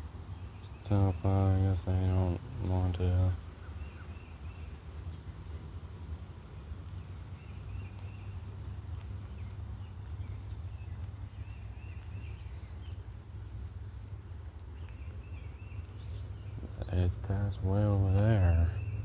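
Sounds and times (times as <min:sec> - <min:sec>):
low outdoor rumble: 0:00.0 - 0:19.0
songbirds warbling: 0:00.0 - 0:19.0.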